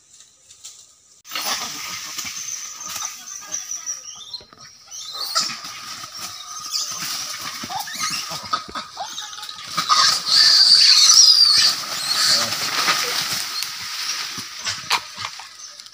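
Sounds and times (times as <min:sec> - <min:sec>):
monkeys shrieking and squealing: 0:01.3 - 0:15.9.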